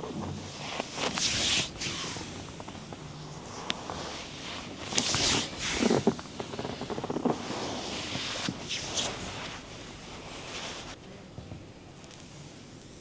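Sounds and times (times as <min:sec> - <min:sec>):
hands rubbing skin and cloth: 0:00.4 - 0:11.0.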